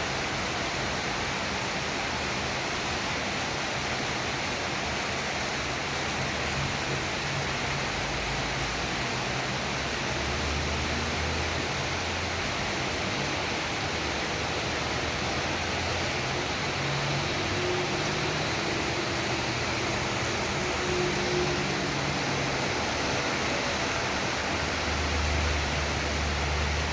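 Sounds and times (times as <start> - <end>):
steady rain: 0.0 - 26.9.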